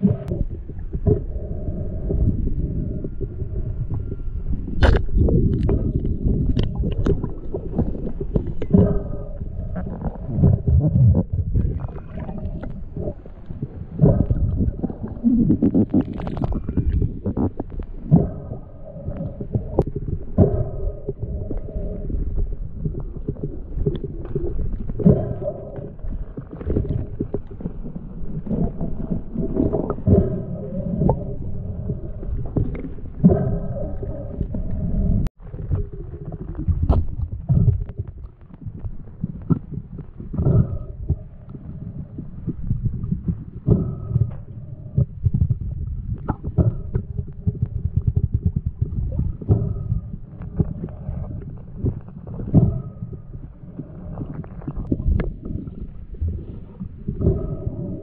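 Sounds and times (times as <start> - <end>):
low droning tones: 0.0 - 58.0
underwater rumbling water: 0.0 - 58.0.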